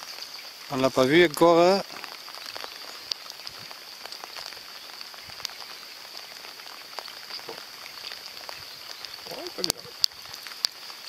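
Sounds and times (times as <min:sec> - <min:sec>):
rain falling on water: 0:00.0 - 0:11.0.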